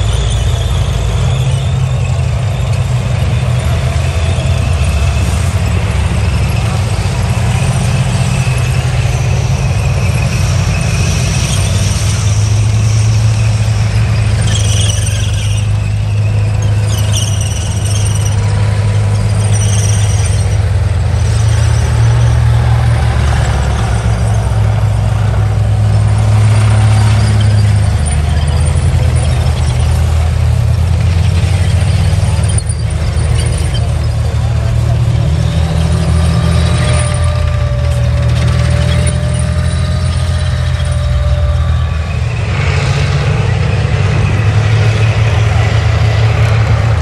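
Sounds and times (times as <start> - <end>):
steel tracks squealing: 0.0 - 47.0
tank engines rumbling: 0.0 - 47.0.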